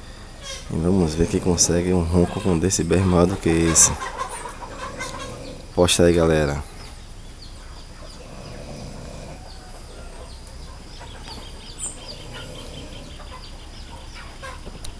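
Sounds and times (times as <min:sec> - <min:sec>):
chickens clucking: 0:00.0 - 0:14.9
small birds chirping: 0:00.0 - 0:14.9.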